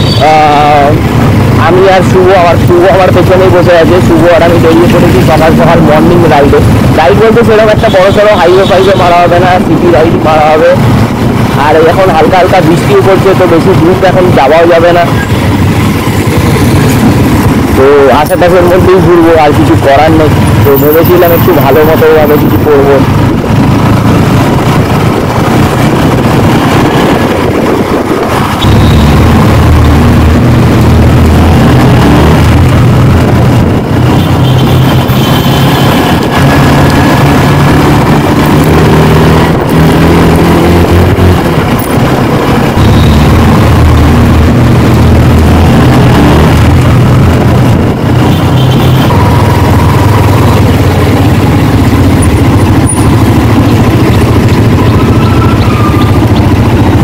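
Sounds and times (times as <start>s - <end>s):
motorcycle engine revving: 0.0s - 57.0s
wind rush on microphone: 9.2s - 19.0s, 19.6s - 57.0s.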